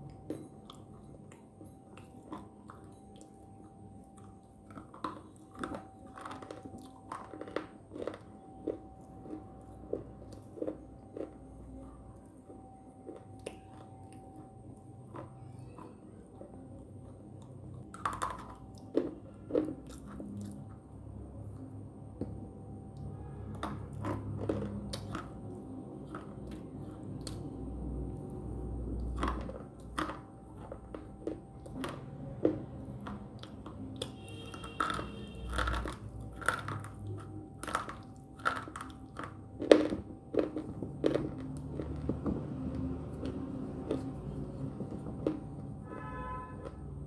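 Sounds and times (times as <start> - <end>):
person chewing crunchy snacks: 0.0 - 20.9, 22.2 - 47.0.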